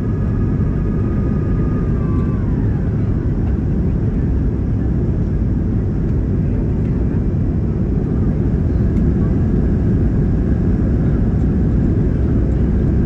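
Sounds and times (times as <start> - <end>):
high engine whine: 0.0 - 13.0
jet engine and airflow rush: 0.0 - 13.0.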